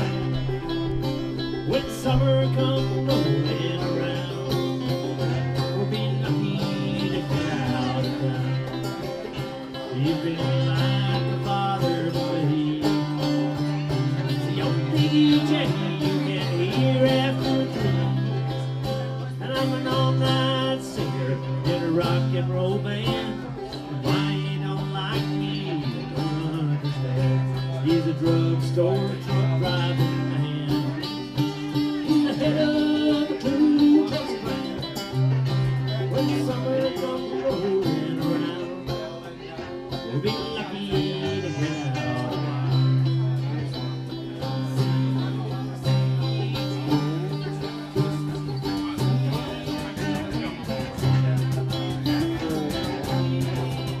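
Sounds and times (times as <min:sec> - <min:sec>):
banjo: 0:00.0 - 0:54.0
guitars playing: 0:00.0 - 0:54.0
man singing: 0:00.0 - 0:54.0.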